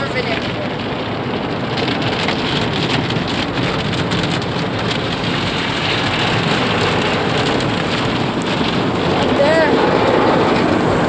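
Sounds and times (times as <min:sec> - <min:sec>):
car wash spray drumming on car: 0:00.0 - 0:11.0.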